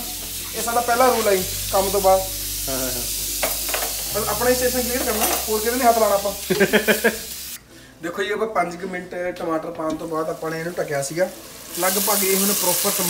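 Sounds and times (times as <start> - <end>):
food sizzling in covered pan: 0.0 - 7.6, 10.1 - 13.0.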